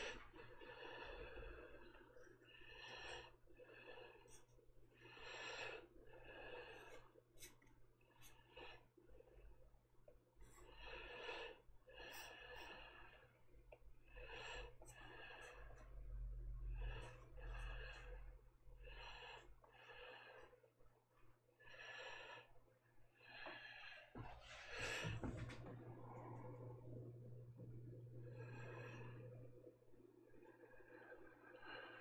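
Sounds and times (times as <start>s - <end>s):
steady low hum: 0.0s - 20.4s, 23.7s - 32.0s
soft human breathing: 0.0s - 32.0s.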